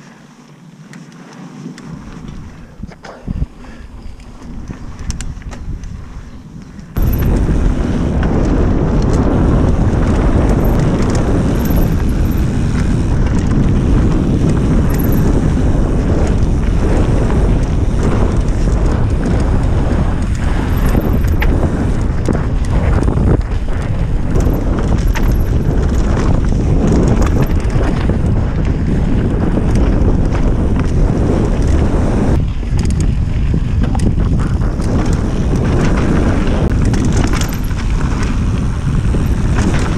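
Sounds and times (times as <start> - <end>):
bike clicks and rattles: 0.0 - 39.9
wind rushing over microphone: 0.7 - 39.9
tyres rumbling over dirt: 6.9 - 39.9.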